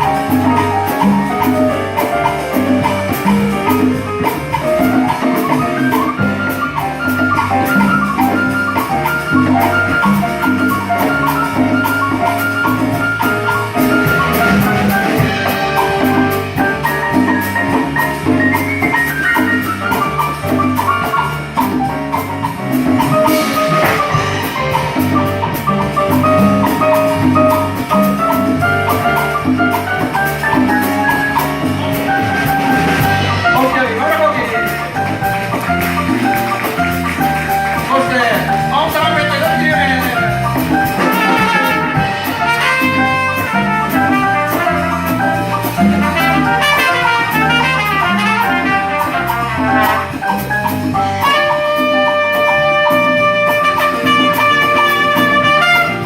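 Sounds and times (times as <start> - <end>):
bright melody notes: 0.0 - 56.0
live band music: 0.0 - 56.0
steady drum beat: 0.0 - 56.0.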